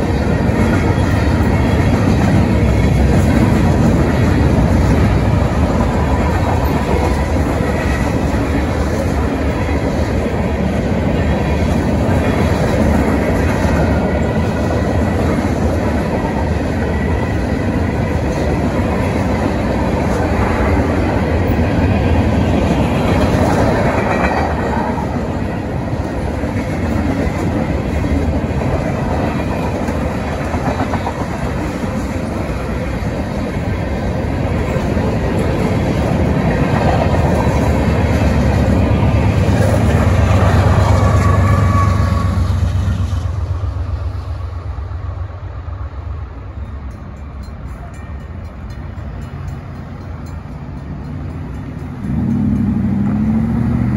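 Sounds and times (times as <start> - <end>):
freight train wheels rolling on rails: 0.0 - 53.9.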